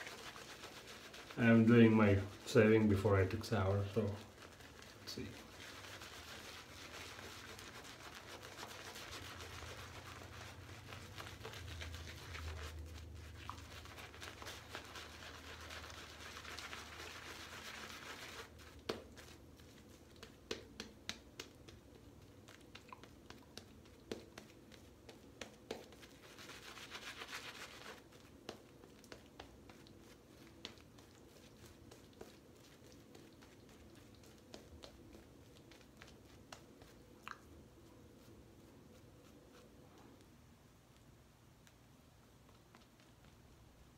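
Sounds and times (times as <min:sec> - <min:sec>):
shaving brush swishing: 0:00.0 - 0:37.1.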